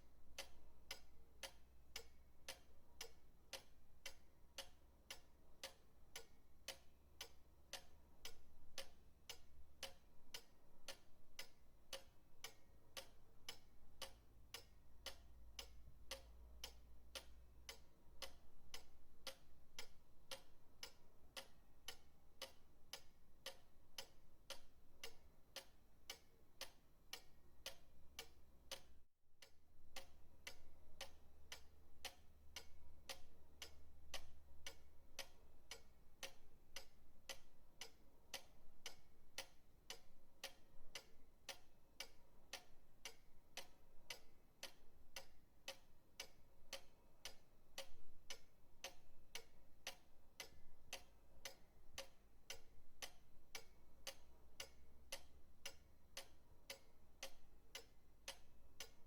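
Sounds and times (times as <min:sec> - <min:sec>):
pendulum clock ticking: 0:00.0 - 0:59.0.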